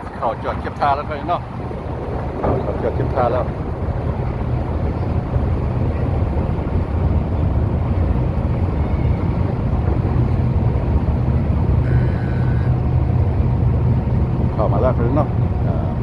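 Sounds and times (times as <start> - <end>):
ship engines rumbling: 0.0 - 16.0
wind noise on microphone: 1.4 - 14.7.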